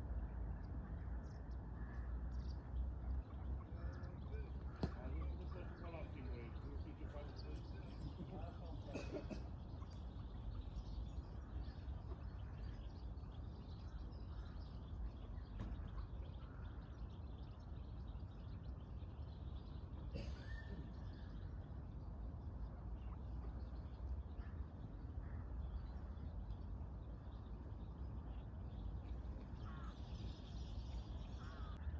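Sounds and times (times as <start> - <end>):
bird chirps: 0.6 - 31.9.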